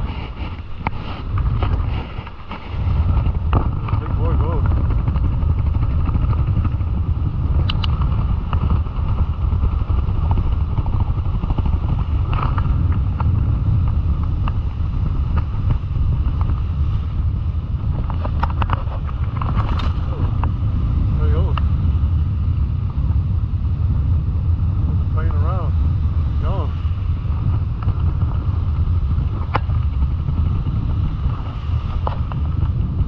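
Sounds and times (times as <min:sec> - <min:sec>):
breaking surf: 0:00.0 - 0:21.8, 0:25.2 - 0:33.0
wind buffeting microphone: 0:00.0 - 0:33.0.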